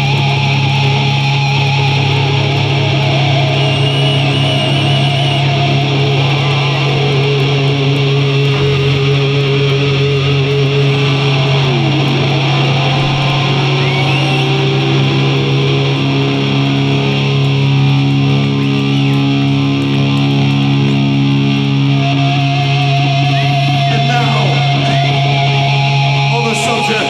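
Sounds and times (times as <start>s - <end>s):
guitar note diving in pitch: 0.0s - 27.0s
heavy metal band droning chord: 0.0s - 27.0s.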